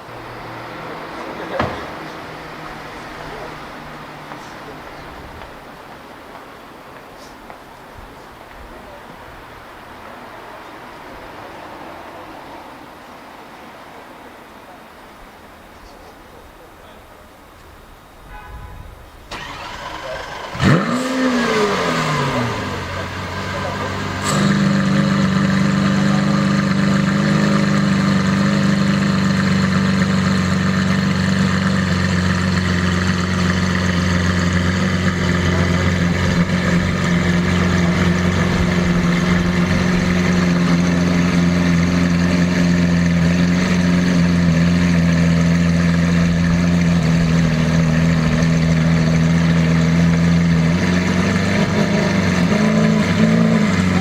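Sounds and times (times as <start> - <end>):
car engine idling: 0.0 - 10.3, 14.6 - 54.0.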